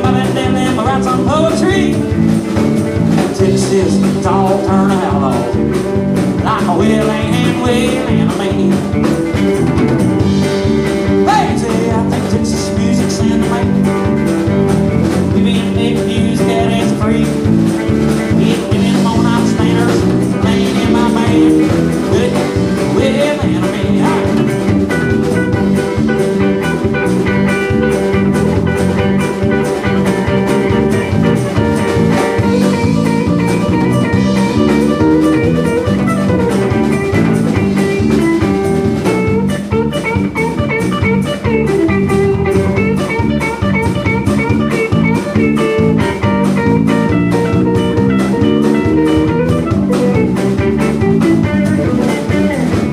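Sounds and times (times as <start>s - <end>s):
bass guitar: 0.0s - 52.9s
drum kit beat: 0.0s - 52.9s
electric guitar lead: 0.0s - 52.9s.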